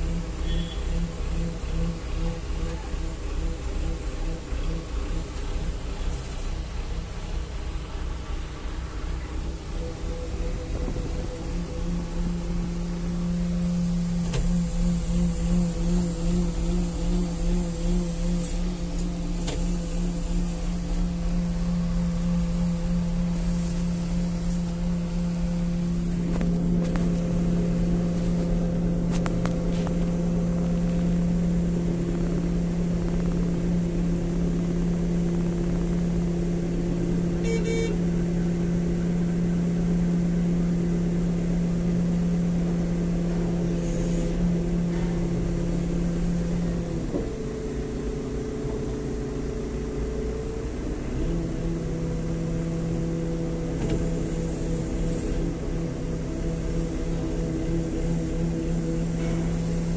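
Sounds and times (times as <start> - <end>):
crane engine humming: 0.0 - 59.9.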